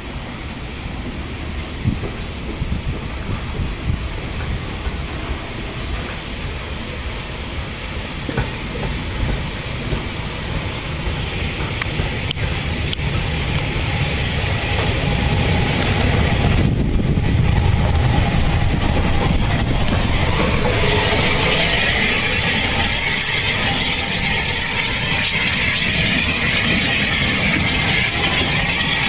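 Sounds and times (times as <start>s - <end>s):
locomotive rumble: 0.0s - 29.0s
steam locomotive hissing: 0.0s - 29.0s.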